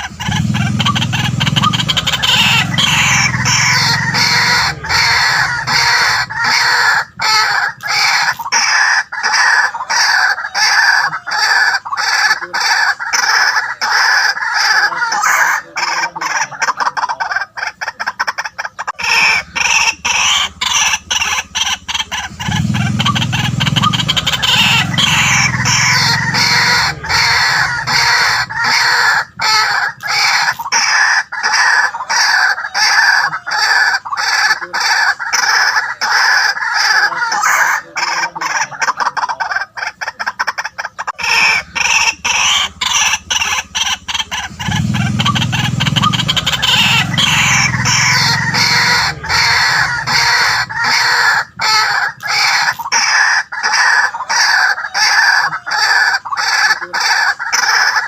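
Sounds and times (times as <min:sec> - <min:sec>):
waterhen croaking calls: 0:00.0 - 0:58.0.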